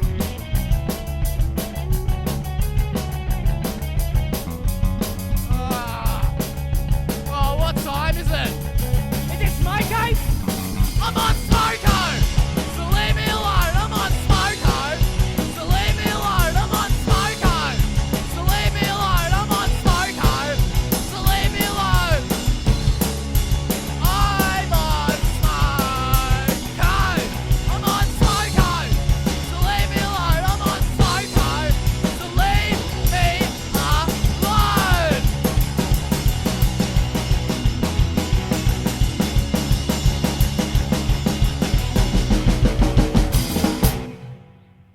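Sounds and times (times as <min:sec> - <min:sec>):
rock music: 0:00.0 - 0:44.9.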